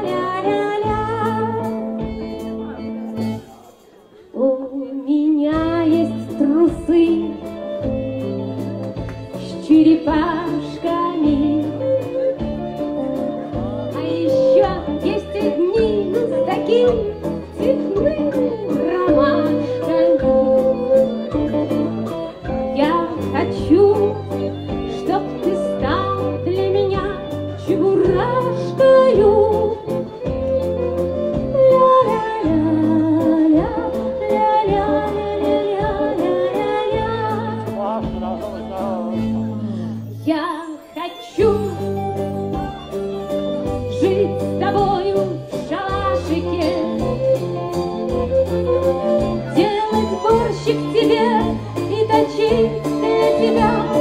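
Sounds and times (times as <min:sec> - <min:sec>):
woman singing: 0:00.0 - 0:02.2, 0:04.3 - 0:08.7, 0:09.3 - 0:12.4, 0:13.2 - 0:42.8, 0:43.6 - 0:54.0
guitar: 0:00.0 - 0:54.0
accordion: 0:05.6 - 0:54.0.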